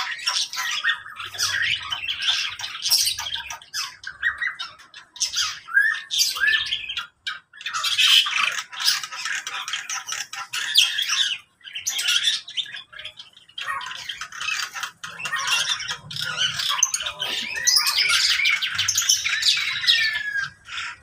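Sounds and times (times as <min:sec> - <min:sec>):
birds squawking and chirping: 0:00.0 - 0:21.0.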